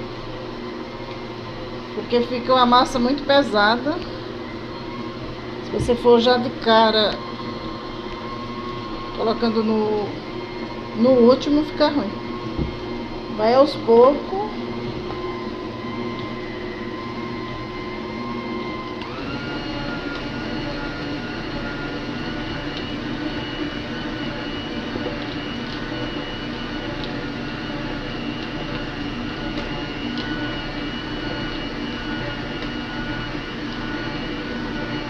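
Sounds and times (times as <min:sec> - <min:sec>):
stand mixer motor whine: 0:00.0 - 0:35.0.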